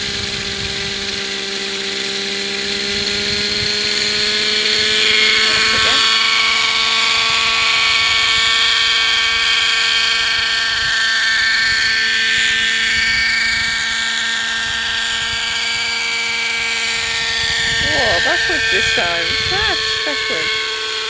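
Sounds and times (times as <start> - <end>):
model helicopter engine whine: 0.0 - 21.0.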